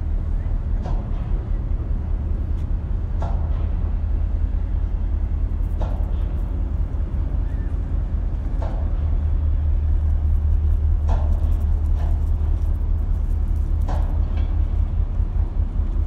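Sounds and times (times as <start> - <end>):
diesel engines rumbling: 0.0 - 16.0.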